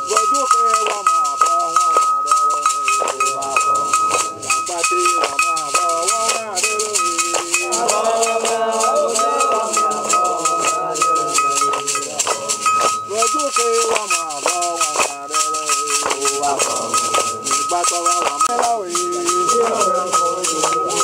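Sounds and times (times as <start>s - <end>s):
men singing a chant: 0.0s - 21.0s
rhythmic hand claps: 0.0s - 21.0s
shaken rattle: 0.0s - 21.0s
struck metal bell: 0.0s - 21.0s.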